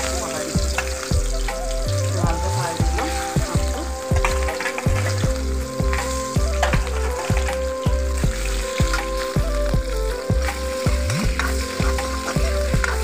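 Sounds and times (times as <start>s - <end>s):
background music with beat: 0.0s - 13.0s
fish sizzling in hot oil: 0.0s - 13.0s.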